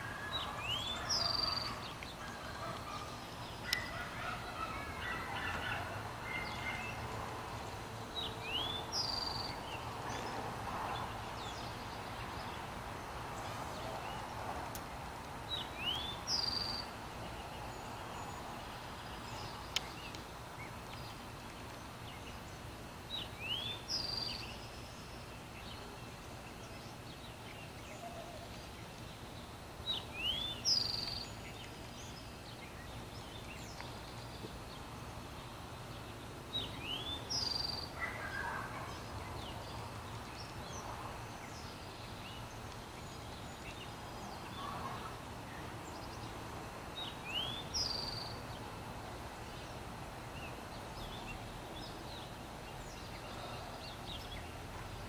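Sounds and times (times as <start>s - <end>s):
steady outdoor hum: 0.0s - 55.0s.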